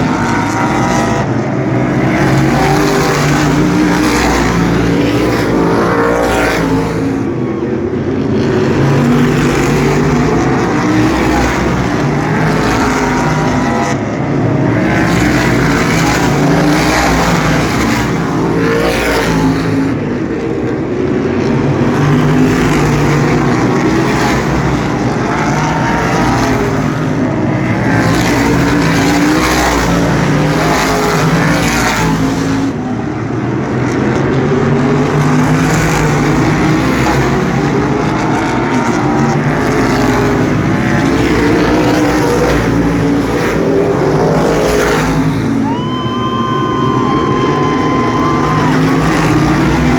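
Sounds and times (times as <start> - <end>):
race car engines passing: 0.0 - 49.9.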